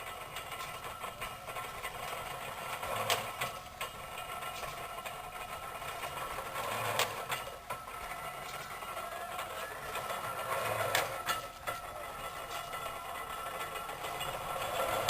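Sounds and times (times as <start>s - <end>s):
farm engine running: 0.0s - 15.0s.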